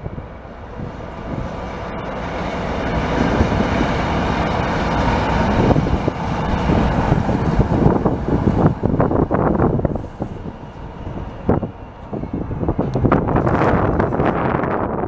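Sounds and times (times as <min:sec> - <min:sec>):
electric locomotive passing: 0:00.0 - 0:15.0.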